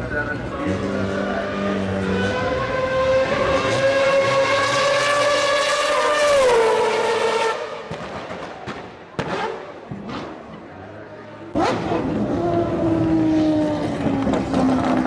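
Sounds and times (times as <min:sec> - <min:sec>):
racing car engine at high revs: 0:00.2 - 0:10.7, 0:11.3 - 0:15.0.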